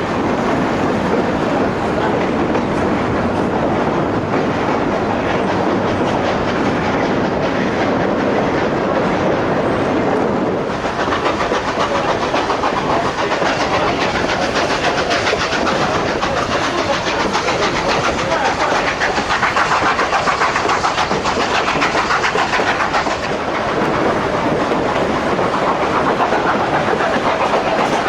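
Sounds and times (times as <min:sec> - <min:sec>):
train wheels clattering: 0:00.0 - 0:28.0.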